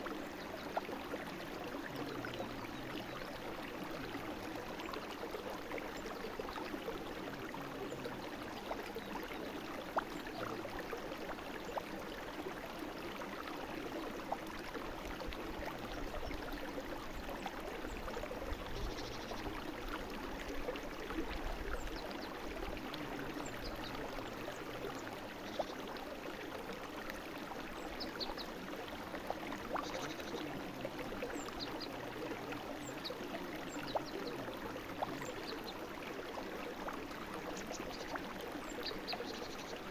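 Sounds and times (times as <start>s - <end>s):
brook flowing: 0.0s - 39.9s
small water splashes: 0.0s - 39.9s.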